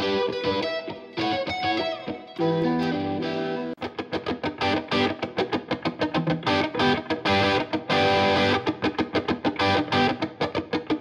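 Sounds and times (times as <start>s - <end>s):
electric guitar music: 0.0s - 11.0s.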